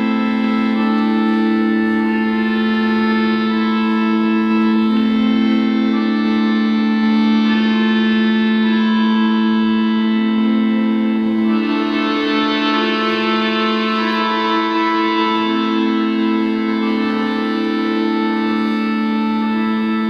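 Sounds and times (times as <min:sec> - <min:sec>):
slow organ chords: 0:00.0 - 0:20.0.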